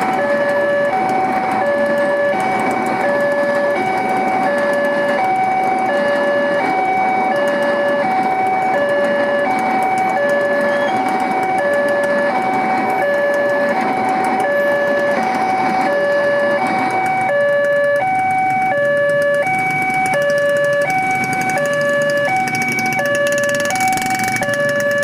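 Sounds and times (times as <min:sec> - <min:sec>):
constant rumbling noise: 0:00.0 - 0:25.0
level-crossing two-tone alarm: 0:00.0 - 0:25.0.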